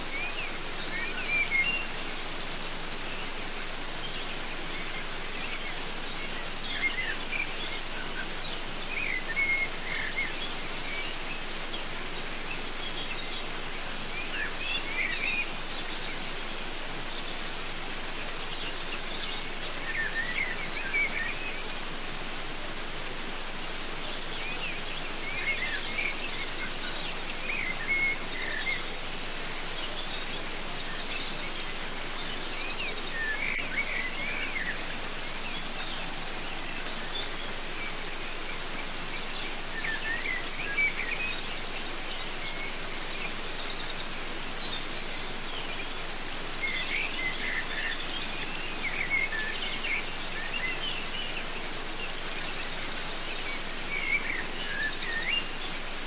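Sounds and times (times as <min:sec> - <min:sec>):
birds chirping: 0:00.0 - 0:56.0
waterfall rushing: 0:00.0 - 0:56.0.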